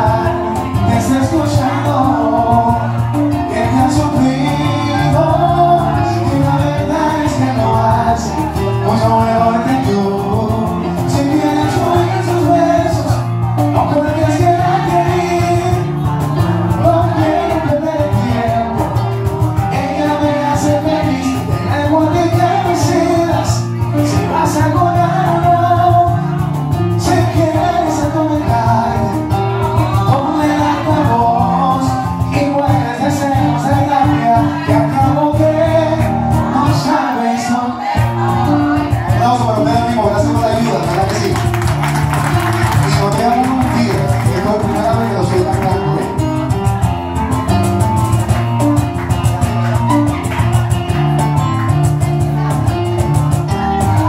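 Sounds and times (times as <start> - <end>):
man singing into a microphone: 0.0 - 41.5, 42.4 - 54.0
amplified musical accompaniment: 0.0 - 54.0.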